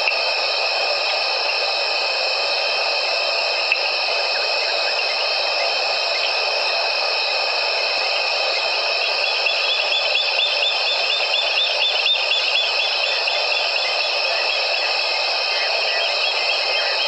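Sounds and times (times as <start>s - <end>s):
insect chirps: 0.0s - 17.0s
insects droning shrilly: 0.0s - 17.0s.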